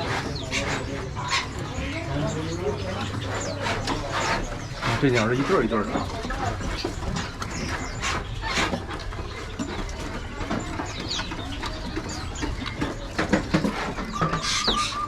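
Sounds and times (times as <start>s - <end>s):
caged birds chirping: 0.0s - 15.0s
scattered clicks and knocks: 0.0s - 15.0s.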